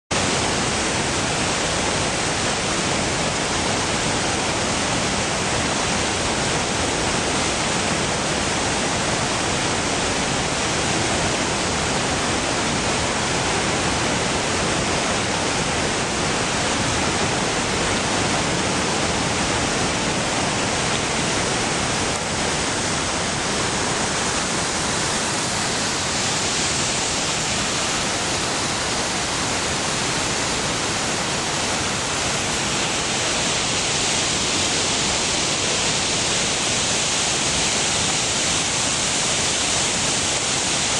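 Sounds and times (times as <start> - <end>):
river rapids rushing: 0.1 - 40.9.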